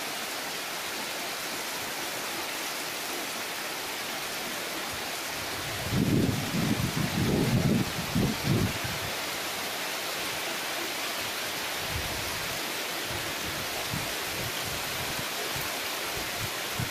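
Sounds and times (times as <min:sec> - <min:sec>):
heavy rain on leaves: 0:00.0 - 0:16.9.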